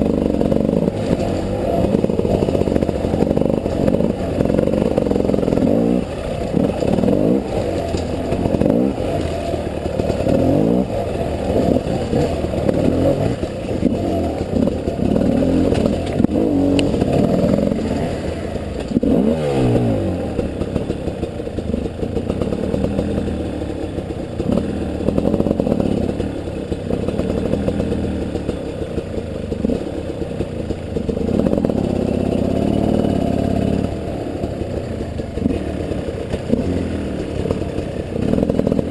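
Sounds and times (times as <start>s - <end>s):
clattering and scraping from bike: 0.0s - 38.9s
motorcycle engine revving: 0.0s - 38.9s.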